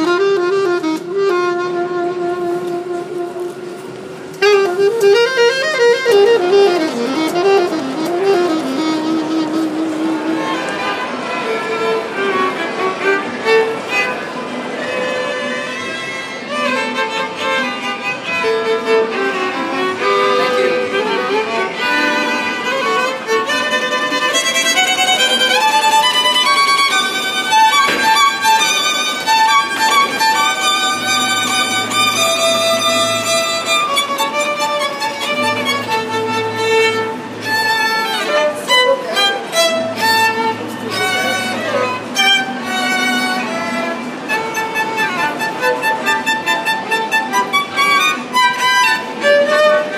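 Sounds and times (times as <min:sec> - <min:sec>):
two violins playing duet: 0:00.0 - 0:49.9.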